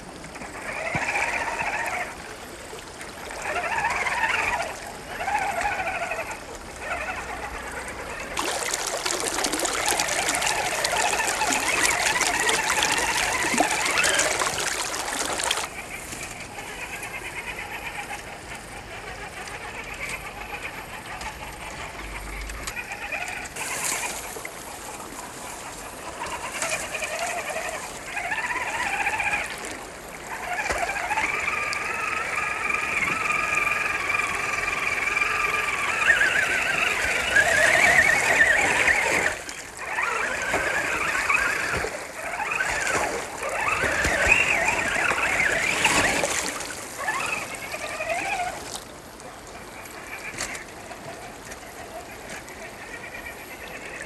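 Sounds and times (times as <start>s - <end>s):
stream water splashing: 0.0s - 54.0s.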